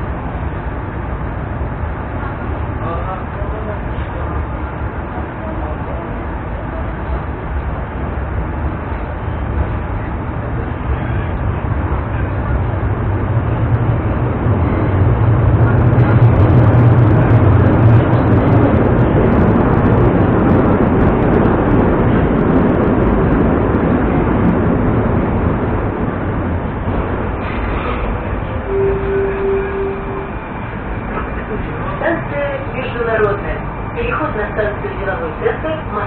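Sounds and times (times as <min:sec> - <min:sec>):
train wheel and traction rumble: 0:00.0 - 0:36.0.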